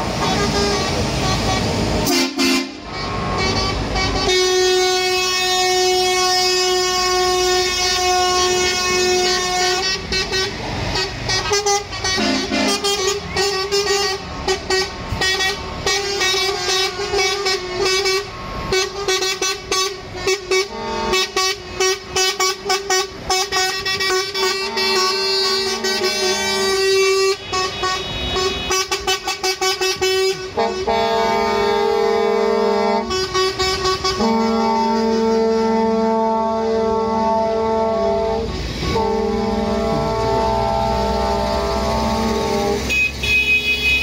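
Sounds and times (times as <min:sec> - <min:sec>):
truck horns honking: 0:00.0 - 0:44.0.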